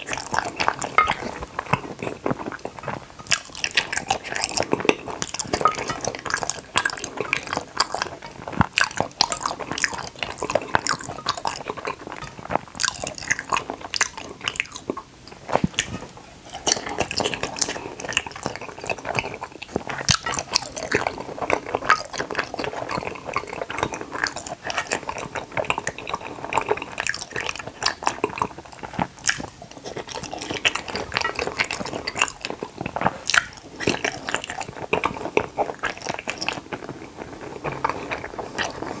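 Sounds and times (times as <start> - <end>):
chewing gummy sweets: 0.0 - 39.0.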